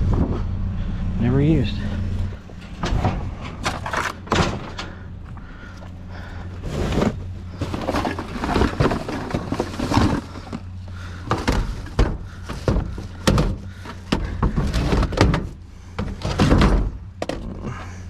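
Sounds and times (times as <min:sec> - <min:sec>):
steady low hum: 0:00.0 - 0:18.0
junk banging inside metal dumpster: 0:01.8 - 0:17.9.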